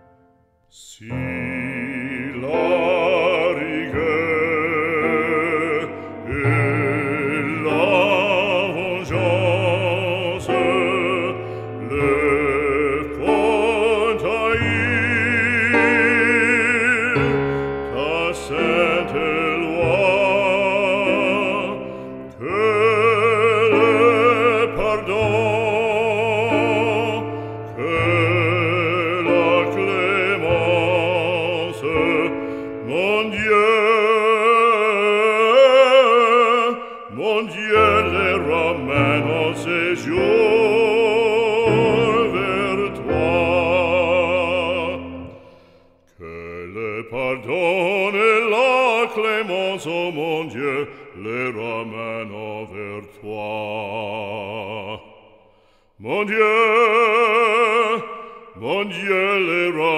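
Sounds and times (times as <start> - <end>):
operatic voice singing: 0.7 - 59.9.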